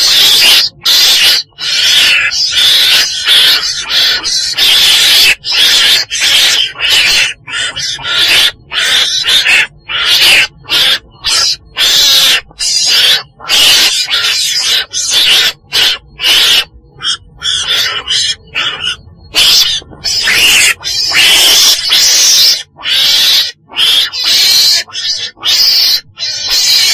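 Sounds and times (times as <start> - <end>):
weasel screeching calls: 0.0 - 26.9.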